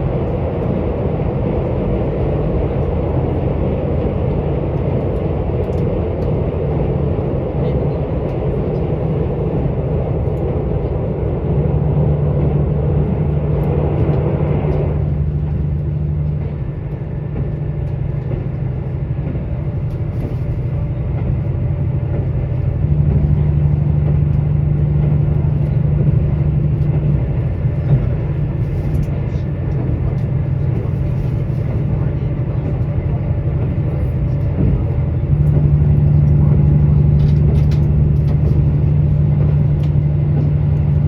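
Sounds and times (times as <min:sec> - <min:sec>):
diesel engine low hum: 0:00.0 - 0:41.0
train wheel running noise: 0:00.0 - 0:41.0.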